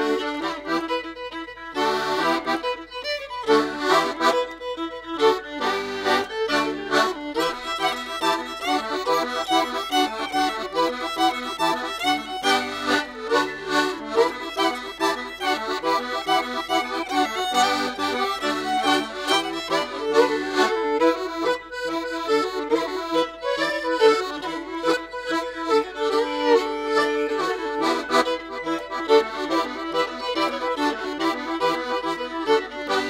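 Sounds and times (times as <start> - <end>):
accordion folk tune: 0.0 - 33.0.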